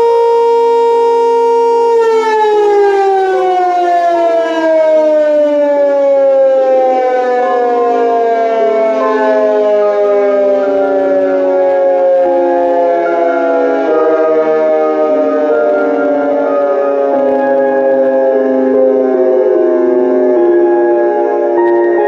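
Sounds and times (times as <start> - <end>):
warning siren falling in pitch: 0.0 - 22.0.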